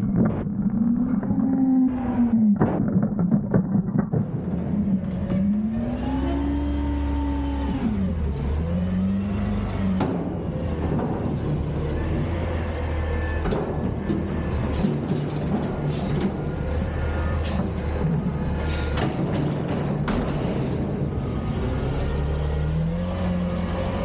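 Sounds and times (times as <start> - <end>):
garbage truck engine revving: 3.9 - 24.0.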